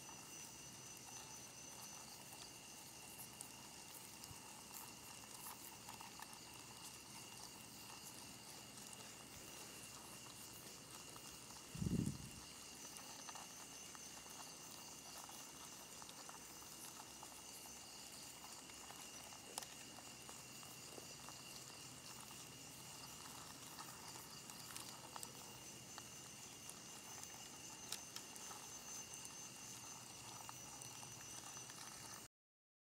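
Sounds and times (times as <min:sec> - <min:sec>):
higher insect trill: 0:00.0 - 0:32.3
night insects trilling: 0:00.0 - 0:32.3.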